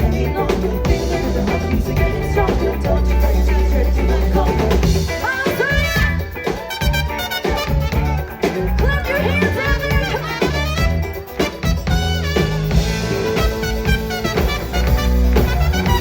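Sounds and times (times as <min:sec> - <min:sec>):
bass: 0:00.0 - 0:16.0
drum kit: 0:00.0 - 0:16.0
live latin pop band playing: 0:00.0 - 0:16.0.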